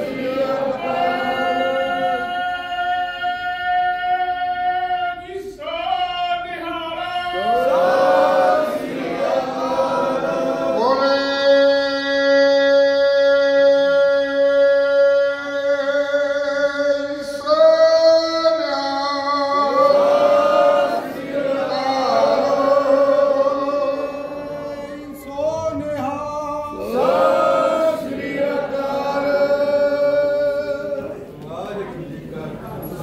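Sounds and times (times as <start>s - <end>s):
group of voices singing: 0.0s - 5.0s, 7.2s - 31.4s.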